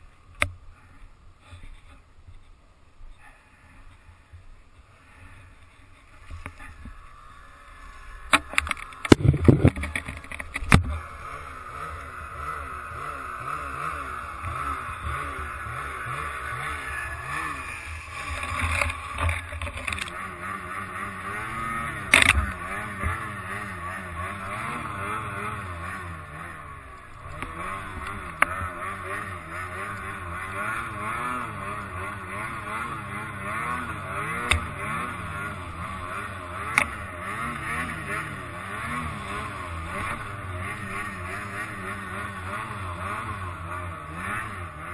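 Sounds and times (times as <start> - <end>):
snowmobile engine revving: 4.9 - 44.9.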